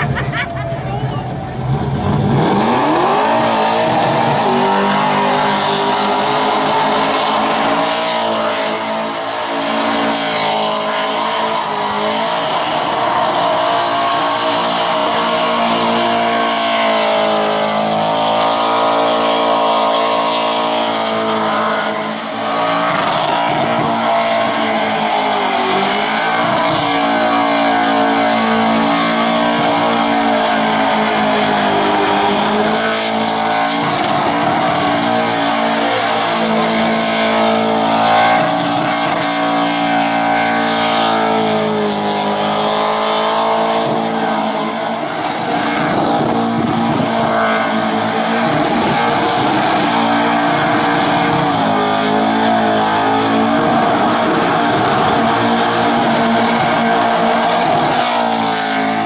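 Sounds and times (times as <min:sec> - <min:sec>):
car engine at high revs: 0:00.0 - 0:59.0
tyres spinning and squealing: 0:00.0 - 0:59.0.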